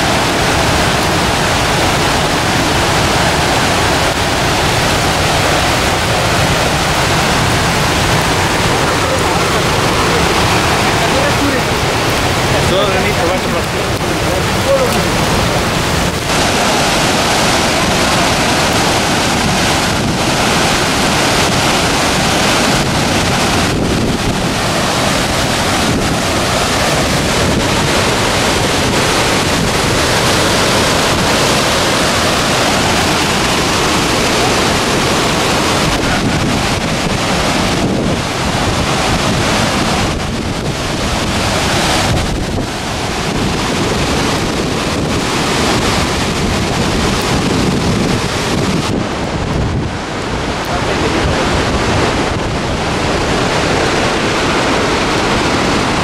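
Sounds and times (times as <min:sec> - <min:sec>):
loud rushing noise: 0:00.0 - 0:56.0.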